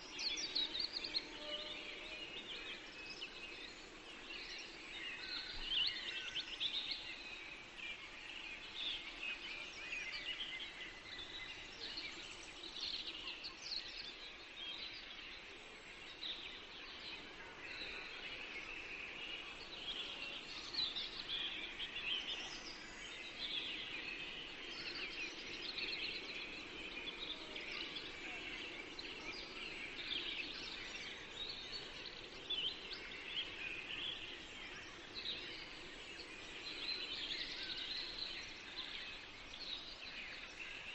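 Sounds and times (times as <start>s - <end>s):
small birds chirping and singing: 0.0s - 40.9s.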